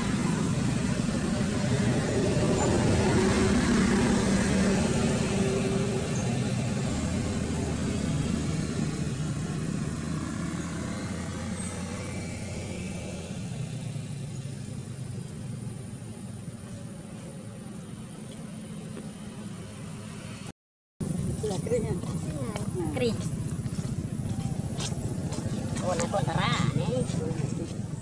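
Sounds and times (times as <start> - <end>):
passing engine rumble: 0.0 - 28.0.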